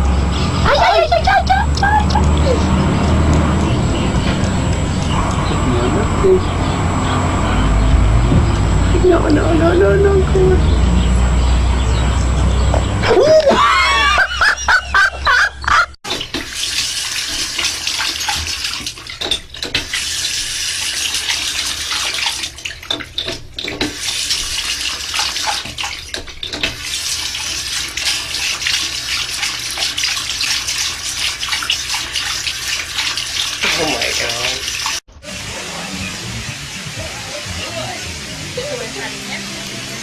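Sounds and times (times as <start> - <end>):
tap water running: 0.0 - 11.3, 16.0 - 40.0.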